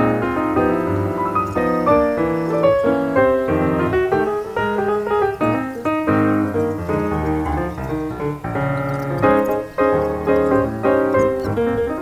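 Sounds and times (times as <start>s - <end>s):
piano background music: 0.0s - 12.0s.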